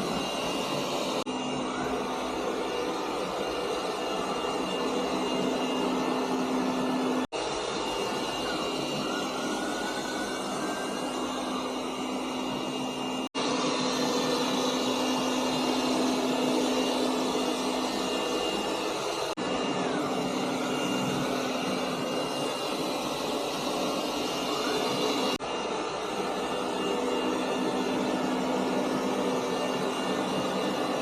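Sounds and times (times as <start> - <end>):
robot vacuum whirring: 0.0 - 31.0.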